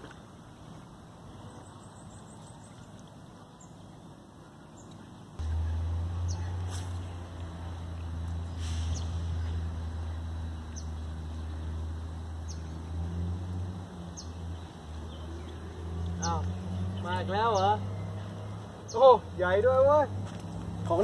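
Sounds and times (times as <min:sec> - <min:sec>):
high falling bird chirp: 0:01.3 - 0:19.4.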